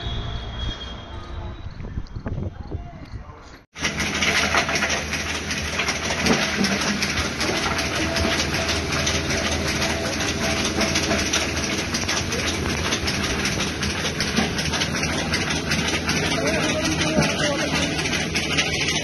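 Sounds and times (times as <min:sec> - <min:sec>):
soil grinding machine rattling: 0:03.7 - 0:19.0.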